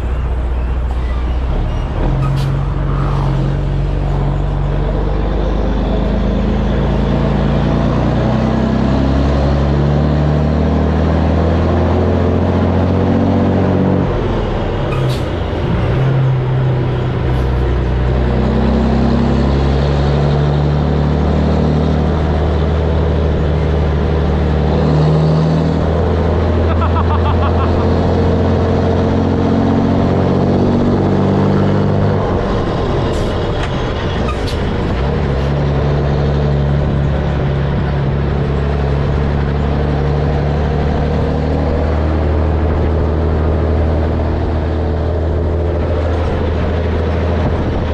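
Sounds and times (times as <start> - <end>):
diesel truck engine booming: 0.0 - 47.9.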